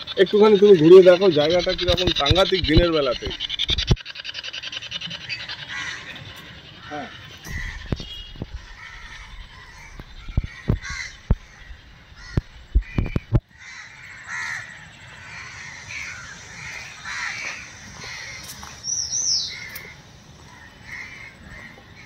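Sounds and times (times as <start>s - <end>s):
crows cawing: 0.0s - 18.8s, 19.4s - 22.0s.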